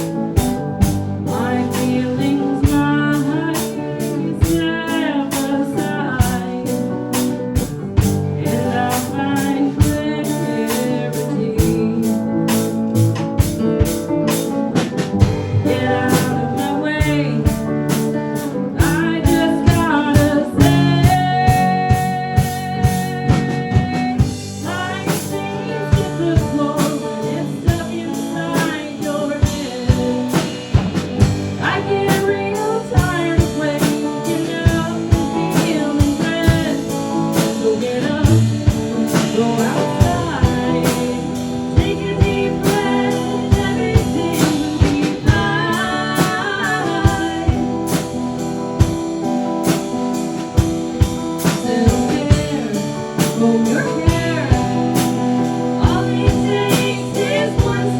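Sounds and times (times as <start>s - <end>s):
drum kit beat: 0.0s - 57.9s
guitar: 0.0s - 57.9s
live blues-rock band: 0.0s - 57.9s
person singing: 0.0s - 57.9s.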